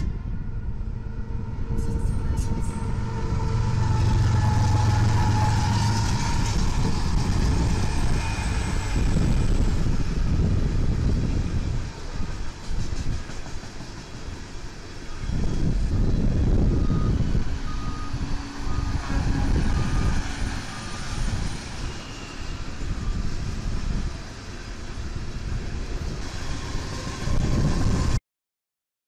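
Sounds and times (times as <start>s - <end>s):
rail cars rumbling past: 0.0s - 28.2s.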